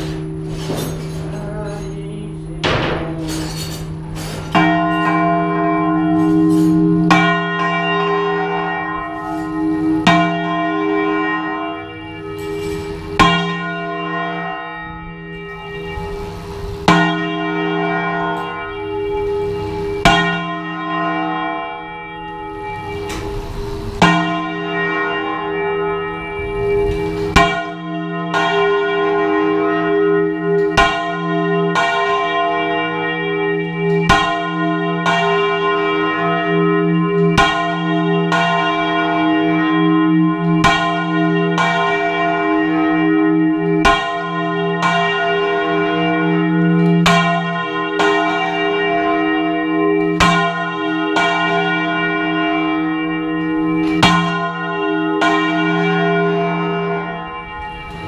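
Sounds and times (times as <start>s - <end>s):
large church bell ringing: 0.0s - 58.0s.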